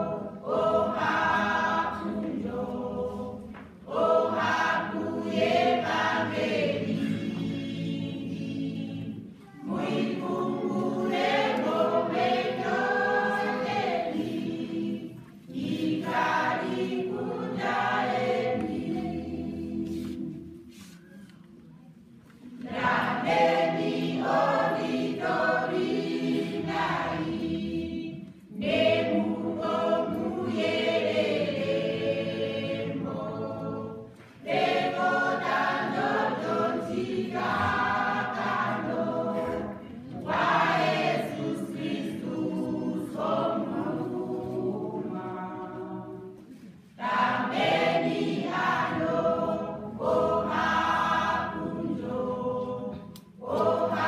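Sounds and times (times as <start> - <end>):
choir singing a hymn: 0.0 - 21.0, 22.4 - 54.0.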